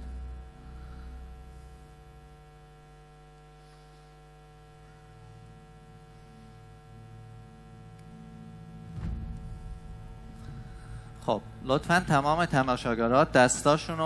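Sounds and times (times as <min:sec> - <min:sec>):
faint electrical mains hum: 0:00.0 - 0:14.0.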